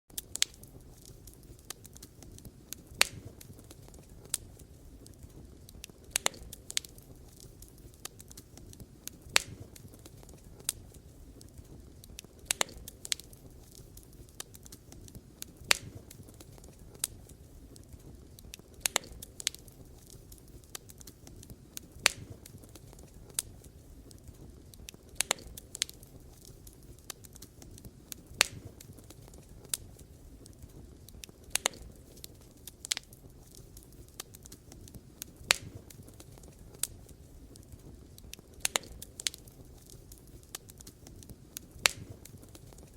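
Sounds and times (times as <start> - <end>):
campfire crackling: 0.1 - 42.9.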